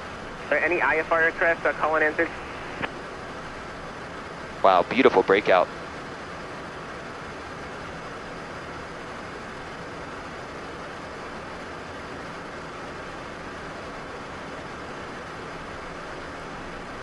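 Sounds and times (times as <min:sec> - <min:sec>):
faint low hum: 0:00.0 - 0:17.0
jet cockpit airflow and engine: 0:00.0 - 0:17.0.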